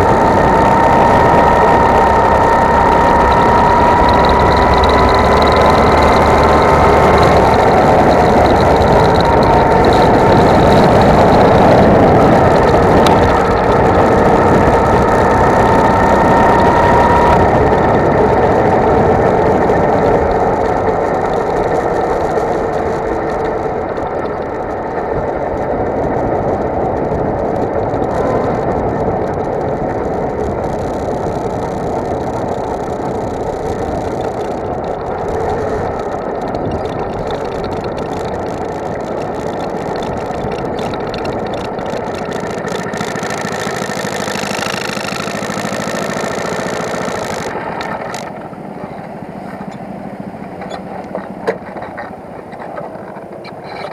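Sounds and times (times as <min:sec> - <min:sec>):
go-kart engine whining: 0:00.0 - 0:53.9
rushing noise: 0:00.0 - 0:53.9.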